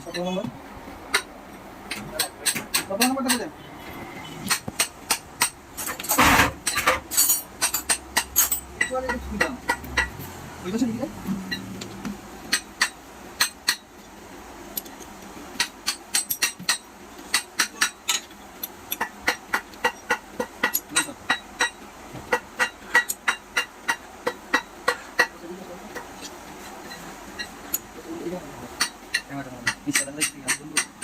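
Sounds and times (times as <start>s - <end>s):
tools tapping metal: 0.0s - 0.5s, 1.1s - 1.3s, 1.9s - 3.5s, 4.5s - 10.2s, 11.5s - 13.9s, 14.7s - 27.9s, 28.8s - 31.0s.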